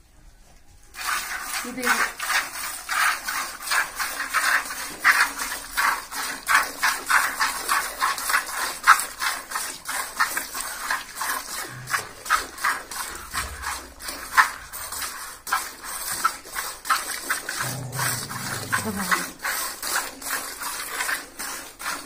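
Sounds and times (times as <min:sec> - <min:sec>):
milk squirting into bucket: 0:00.9 - 0:22.0.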